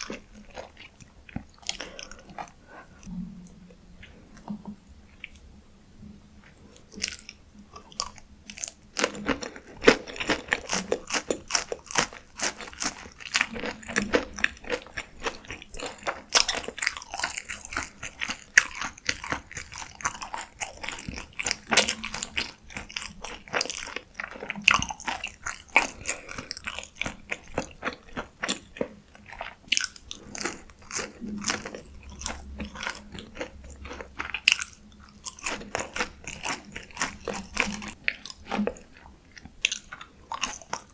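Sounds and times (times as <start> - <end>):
crunching and chewing food: 0.0 - 5.5, 6.4 - 40.9.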